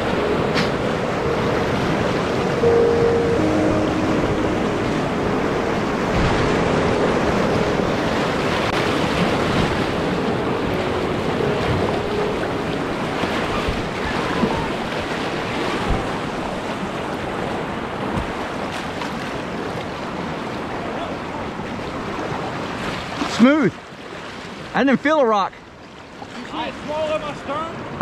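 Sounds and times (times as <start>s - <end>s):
whitewater rushing: 0.0s - 25.4s
water splashing: 0.0s - 27.8s.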